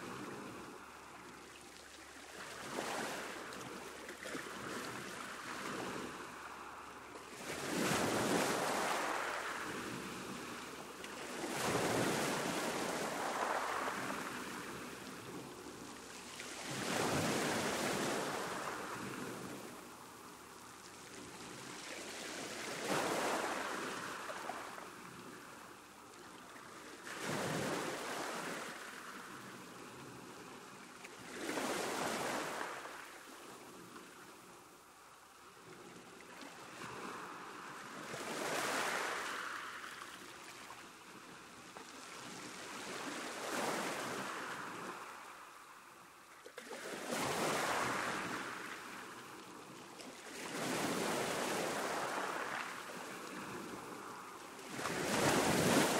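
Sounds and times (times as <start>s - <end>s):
waves breaking on shore: 0.0s - 55.9s.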